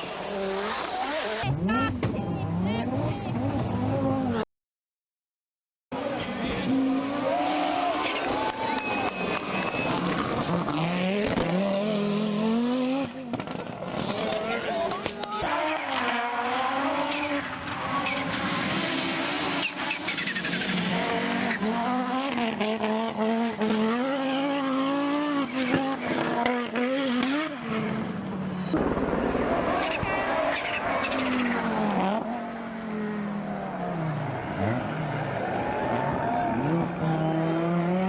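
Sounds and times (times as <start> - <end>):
rally car engine revving: 0.0 - 4.4, 6.0 - 38.0.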